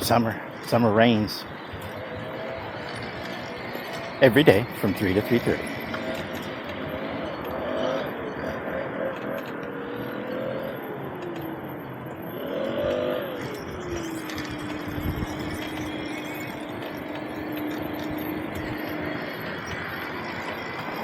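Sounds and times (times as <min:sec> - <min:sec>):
road and wind noise: 0:00.0 - 0:21.0
motor whine: 0:00.9 - 0:21.0.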